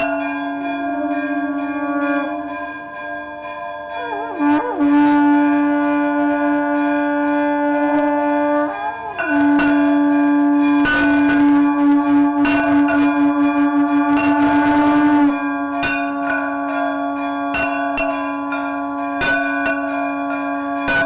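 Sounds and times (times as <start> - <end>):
conch shell blown: 0.0 - 21.0
temple bells ringing: 0.0 - 21.0.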